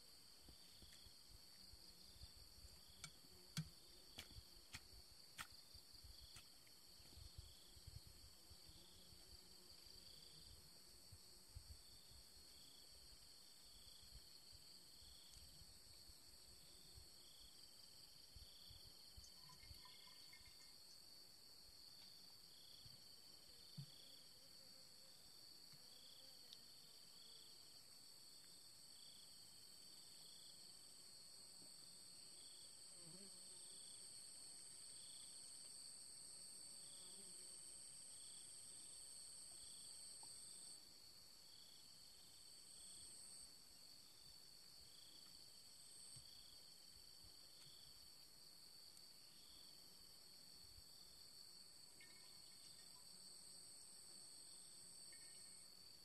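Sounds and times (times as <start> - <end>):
higher insect chirp: 0.0 - 56.0
insects droning: 0.0 - 56.0.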